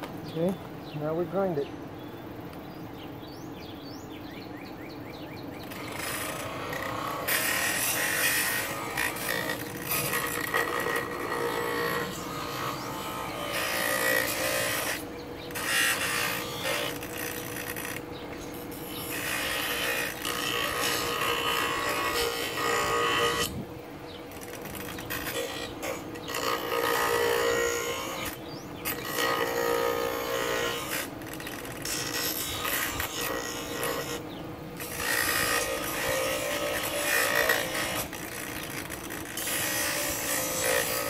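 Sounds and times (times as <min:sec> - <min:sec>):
bench grinder humming: 0:05.6 - 0:41.0
wood grinding on grinding wheel: 0:05.6 - 0:41.0.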